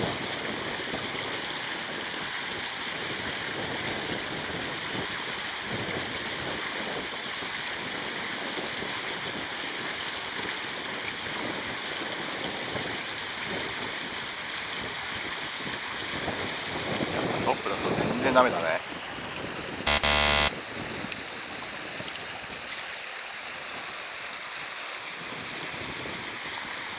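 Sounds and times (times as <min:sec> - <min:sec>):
water rushing from outflow: 0:00.0 - 0:19.8, 0:20.6 - 0:26.9.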